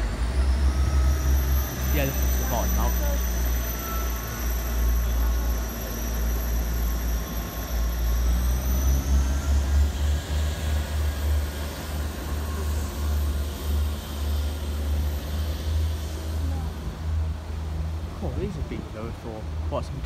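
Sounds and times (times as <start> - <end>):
diesel train pulling away: 0.0 - 20.0.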